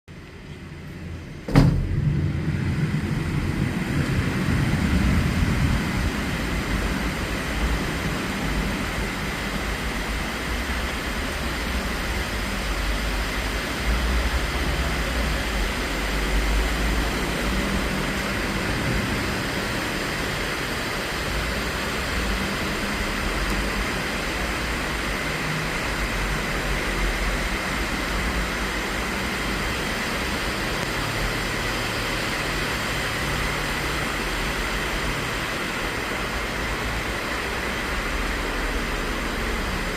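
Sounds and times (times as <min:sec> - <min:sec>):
steady rain hiss: 0:00.2 - 0:39.9.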